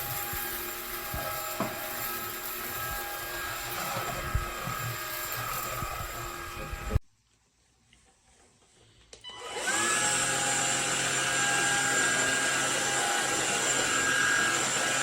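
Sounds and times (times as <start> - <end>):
vacuum cleaner running: 0.0 - 7.0, 9.3 - 15.0.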